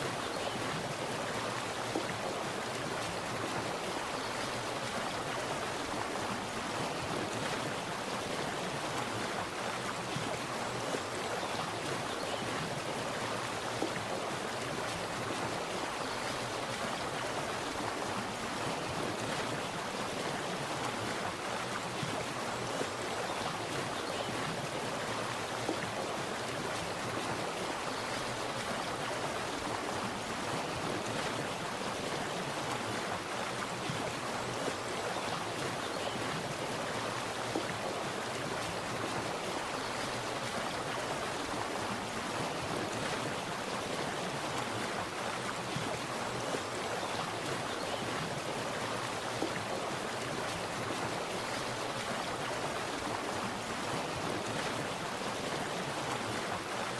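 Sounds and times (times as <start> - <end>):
water splashing and flowing: 0.0 - 56.9.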